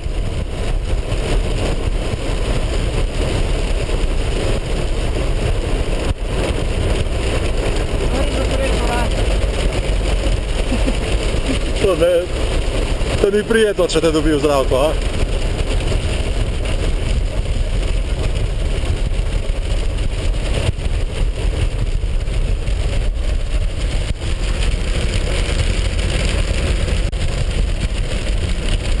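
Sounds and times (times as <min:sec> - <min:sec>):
car engine rumble: 0:00.0 - 0:29.0
tyres on gravel: 0:00.0 - 0:29.0.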